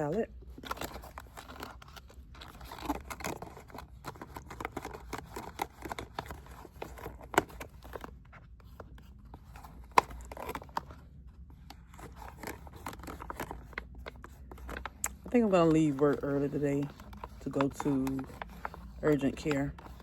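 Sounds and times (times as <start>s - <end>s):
packet crinkling and rustling: 0.0s - 20.0s.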